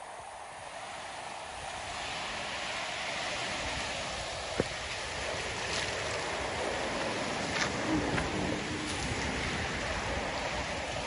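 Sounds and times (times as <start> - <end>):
surf washing over pebbles: 0.0 - 11.0.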